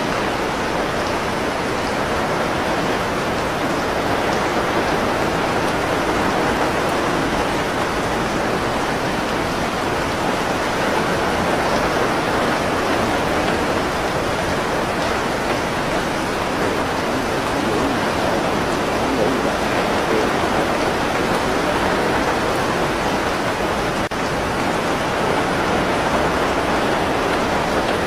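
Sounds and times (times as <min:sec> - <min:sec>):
loud steady water noise: 0:00.0 - 0:28.0.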